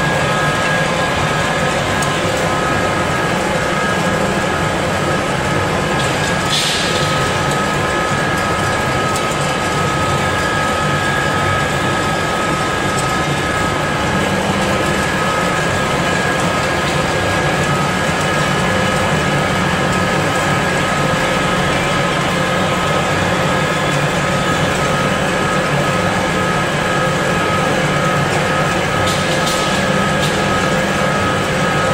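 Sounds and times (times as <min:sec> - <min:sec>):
high machine whine: 0:00.0 - 0:31.9
pellet mill droning: 0:00.0 - 0:31.9.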